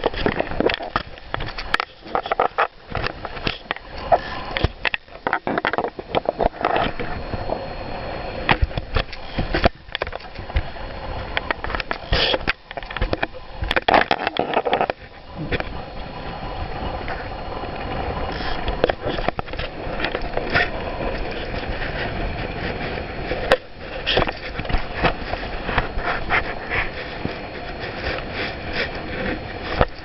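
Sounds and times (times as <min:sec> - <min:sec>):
gusty wind buffeting microphone: 0:00.0 - 0:30.0.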